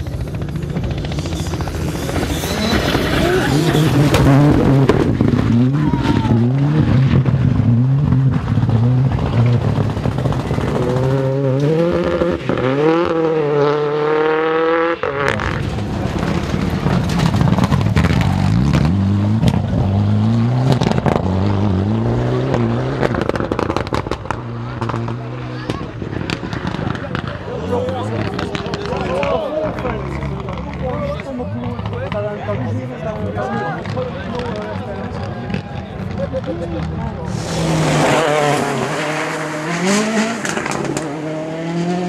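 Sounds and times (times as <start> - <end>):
rally cars passing revving hard: 0.0 - 42.0.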